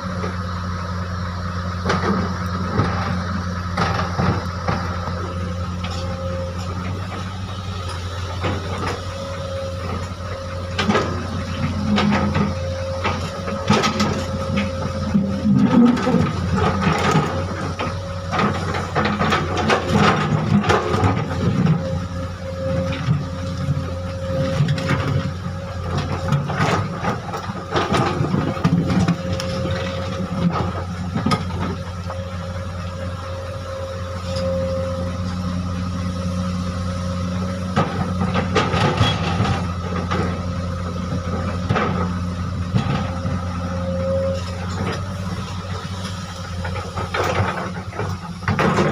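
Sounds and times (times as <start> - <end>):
excavator diesel engine running: 0.0 - 48.9
steady mechanical whine: 0.0 - 48.9.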